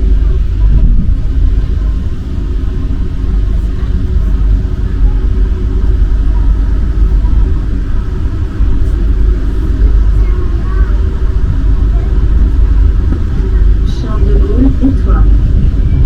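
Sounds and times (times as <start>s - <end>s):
metro train rumble: 0.0s - 16.0s.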